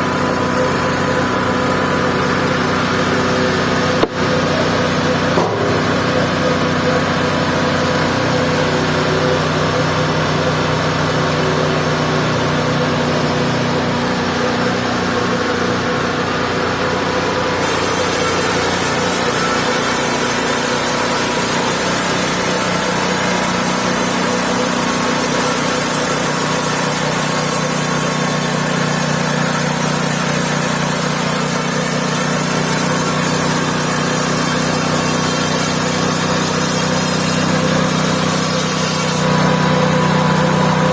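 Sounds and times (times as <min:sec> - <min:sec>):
band sawmill motor running: 0:00.0 - 0:40.9.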